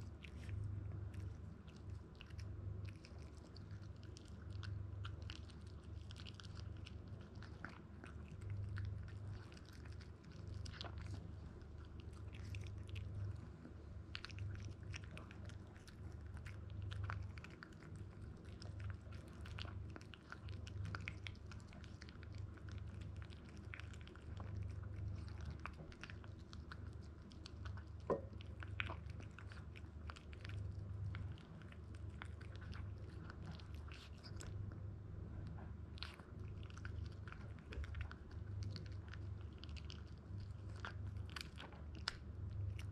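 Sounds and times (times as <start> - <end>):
low steady hum: 0.0 - 42.9
puppy crunching dry kibble: 0.0 - 42.9.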